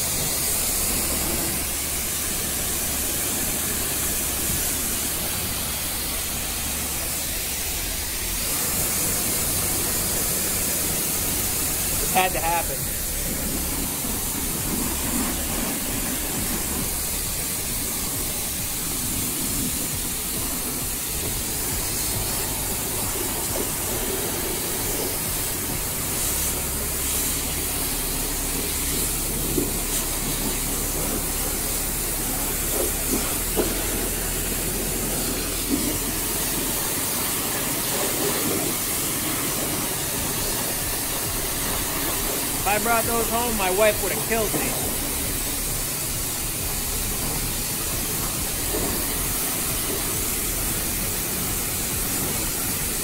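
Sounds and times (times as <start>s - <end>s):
pressure washer spray hissing: 0.0s - 53.0s.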